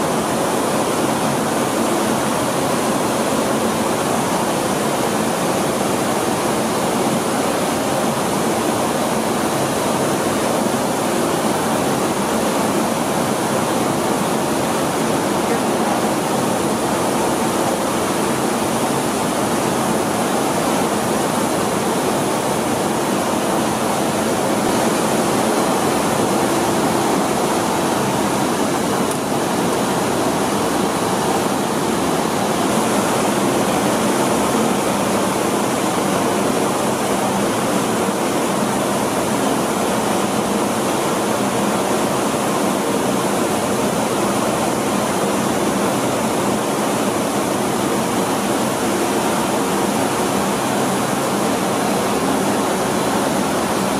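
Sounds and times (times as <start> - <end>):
rice mill machinery running: 0.0 - 53.9.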